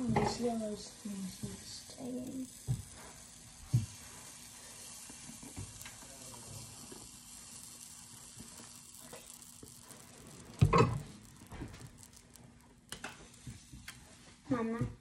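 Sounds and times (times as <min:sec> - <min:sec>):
batter sizzling in a skillet: 0:00.0 - 0:14.7.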